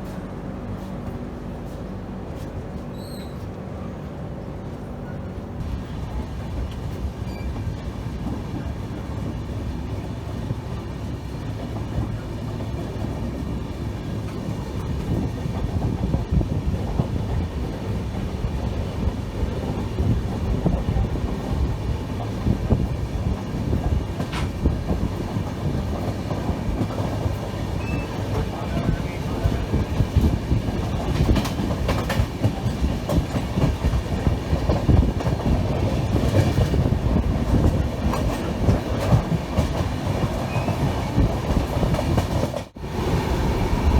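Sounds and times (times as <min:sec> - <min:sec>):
train rumbling on rails: 0:00.0 - 0:43.9.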